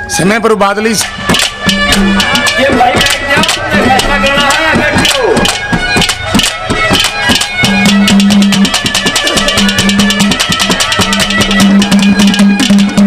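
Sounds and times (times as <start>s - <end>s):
fast dense drumming: 1.0s - 13.0s
reedy drone note: 1.0s - 13.0s.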